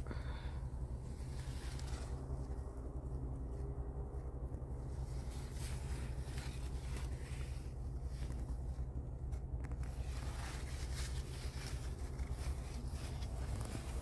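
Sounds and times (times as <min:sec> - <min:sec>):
low rumble: 0:00.0 - 0:14.0
plant leaves rustling: 0:00.0 - 0:14.0.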